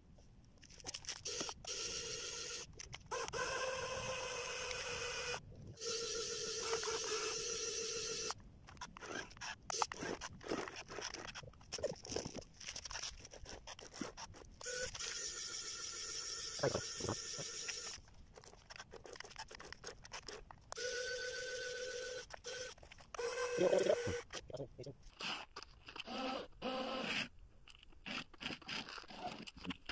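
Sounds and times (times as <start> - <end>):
small electric motors whirring: 0.7 - 24.5, 25.1 - 27.3.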